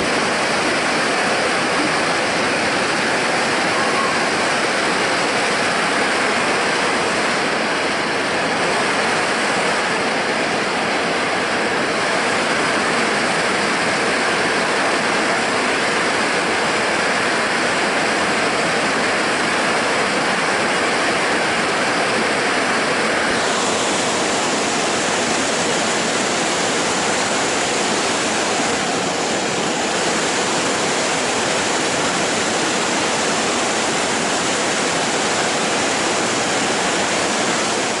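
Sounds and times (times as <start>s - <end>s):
river rapids rushing over rocks: 0.0s - 38.0s.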